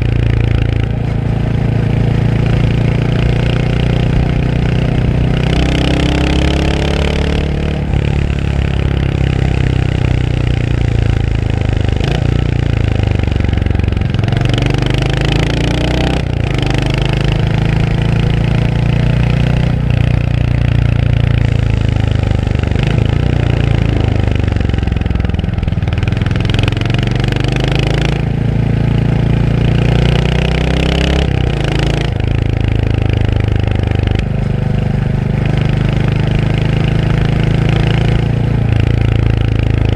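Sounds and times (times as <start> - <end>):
single-cylinder motorcycle engine: 0.0 - 39.9.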